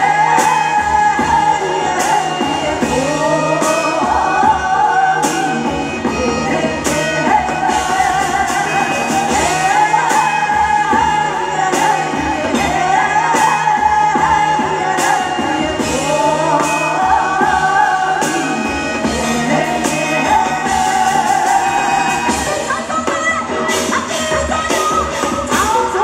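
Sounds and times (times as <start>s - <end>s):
person singing: 0.0s - 26.0s
rock band with drum beat: 0.0s - 26.0s.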